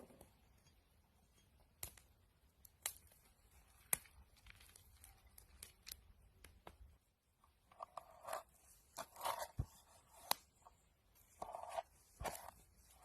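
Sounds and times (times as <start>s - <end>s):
faint clicks and crackles: 0.0s - 13.0s.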